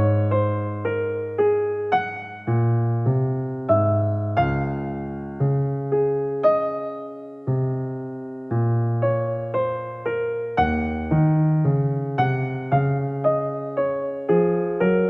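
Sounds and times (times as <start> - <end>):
slow electric piano melody: 0.0 - 15.0.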